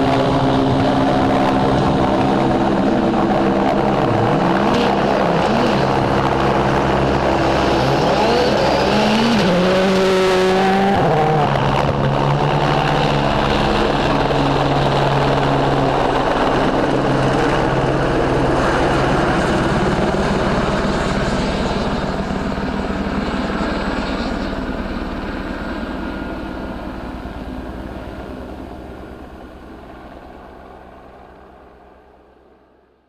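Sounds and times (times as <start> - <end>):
engine drone with pulsing beat: 0.0 - 32.5.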